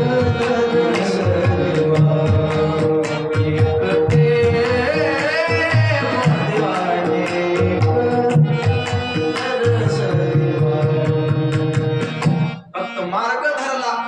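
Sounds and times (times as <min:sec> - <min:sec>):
person singing: 0:00.0 - 0:12.2
sharp percussive strikes: 0:00.0 - 0:12.6
tabla strokes: 0:00.0 - 0:12.6
harmonium chords: 0:00.0 - 0:14.0.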